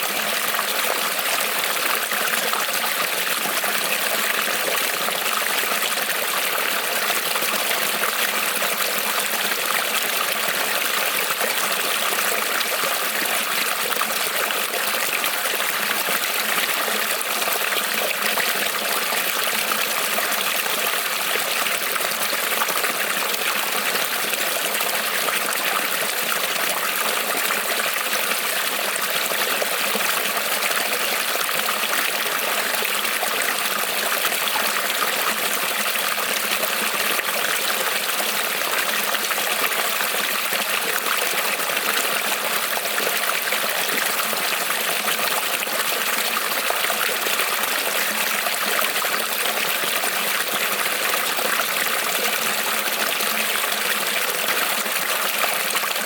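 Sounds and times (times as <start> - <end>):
creek water trickling over stones: 0.0 - 56.0.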